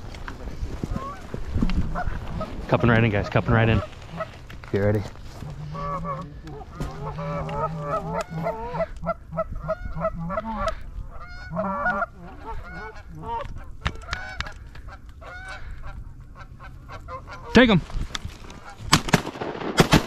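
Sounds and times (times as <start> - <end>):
geese honking and clucking: 0.7 - 18.9.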